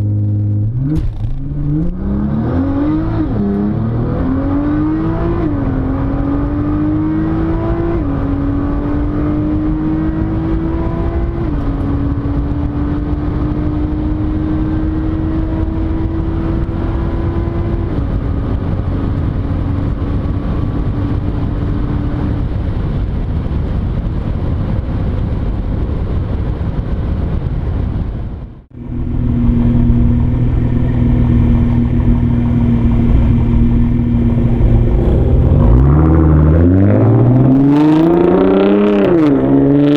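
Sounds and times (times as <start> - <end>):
car engine accelerating: 0.0 - 23.1, 28.5 - 39.9
road and wind noise: 0.0 - 39.9.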